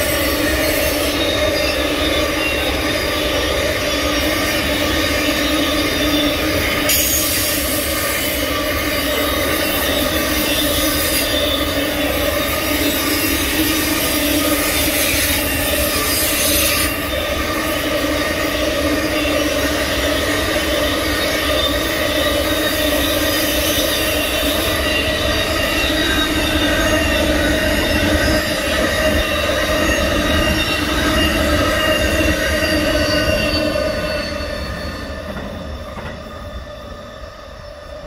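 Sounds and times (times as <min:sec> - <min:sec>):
freight train rumble: 0:00.0 - 0:38.0
train wheels squealing: 0:00.0 - 0:38.0.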